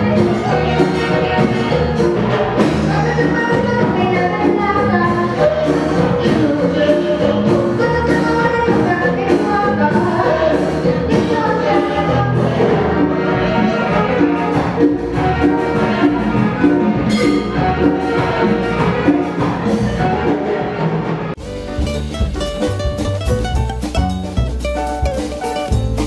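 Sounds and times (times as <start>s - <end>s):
music with singing: 0.0s - 26.0s.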